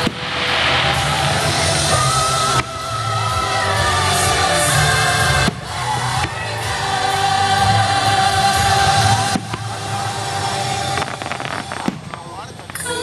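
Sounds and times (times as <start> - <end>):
choir singing with music: 0.0 - 12.2.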